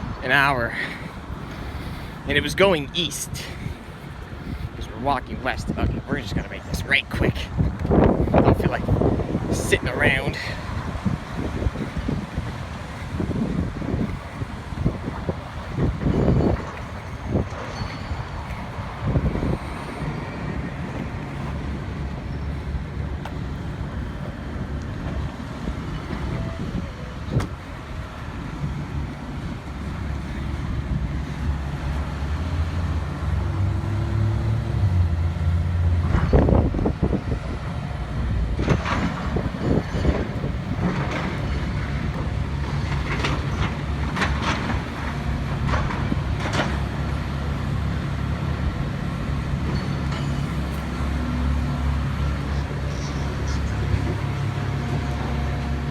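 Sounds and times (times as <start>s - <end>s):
vehicles passing: 0.0s - 55.9s.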